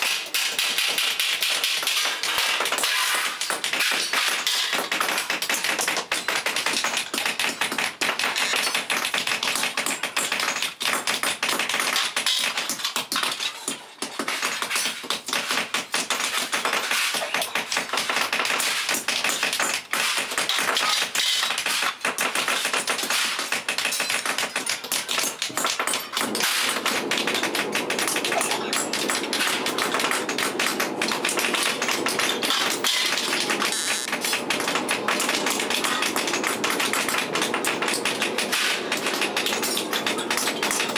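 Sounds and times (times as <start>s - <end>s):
rapid tapping and clatter: 0.0s - 40.9s.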